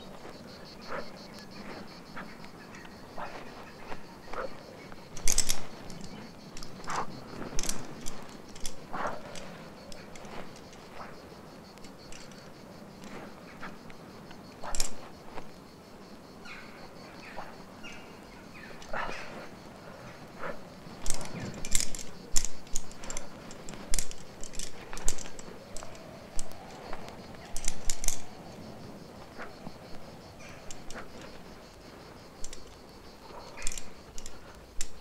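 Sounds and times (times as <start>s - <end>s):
climbing gear knocking: 0.0s - 13.8s, 20.5s - 35.0s.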